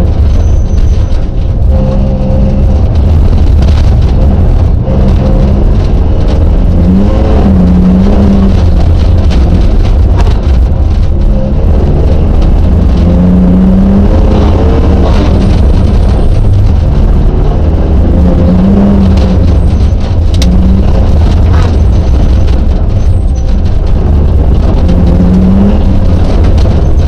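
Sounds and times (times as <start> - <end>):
rally car engine revving: 0.0 - 27.0.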